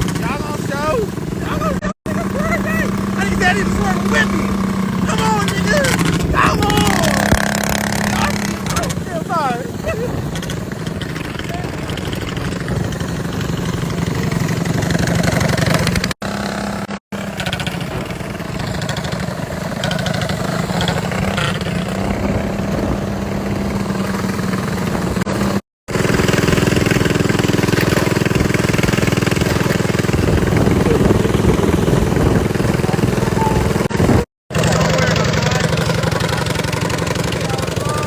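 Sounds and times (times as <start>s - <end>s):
mini bike engine running: 0.0s - 38.0s.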